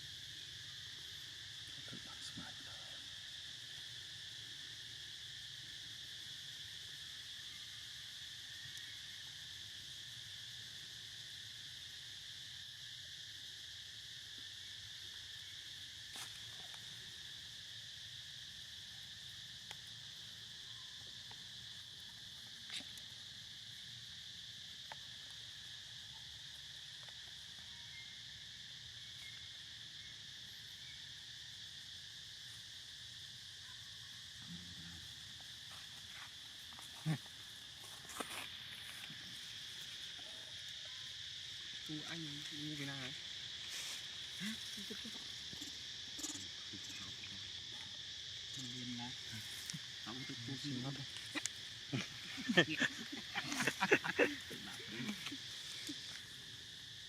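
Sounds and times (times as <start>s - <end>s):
insects chorus: 0.0s - 57.0s.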